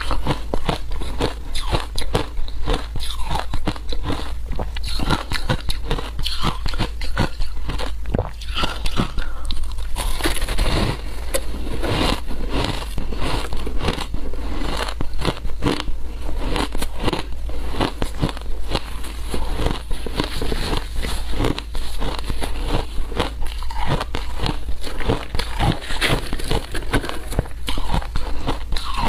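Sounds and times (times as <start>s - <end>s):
ice crunching as chewed: 0.0s - 29.0s.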